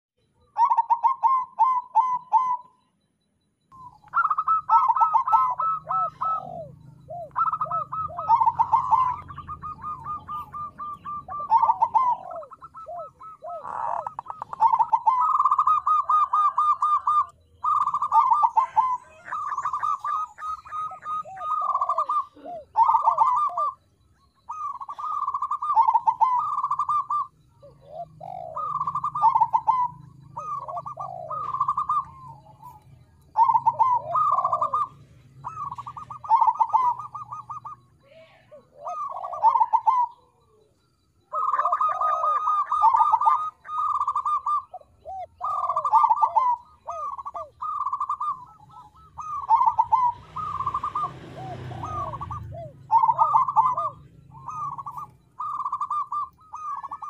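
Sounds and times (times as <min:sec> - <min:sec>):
dove cooing song: 0:00.3 - 0:57.0.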